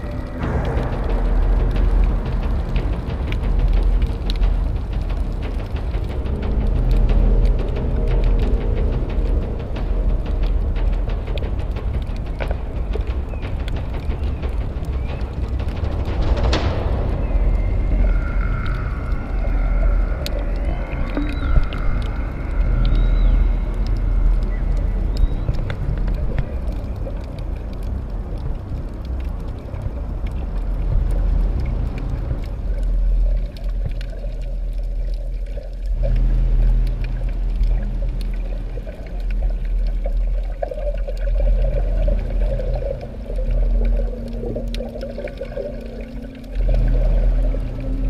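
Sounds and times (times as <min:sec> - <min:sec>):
ambient drone music: 0:00.0 - 0:48.0.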